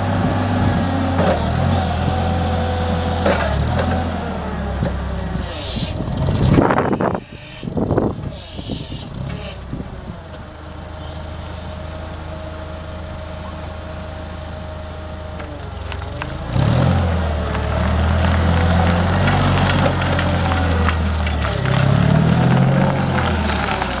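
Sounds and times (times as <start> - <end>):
forklift engine running and revving: 0.0 - 24.0.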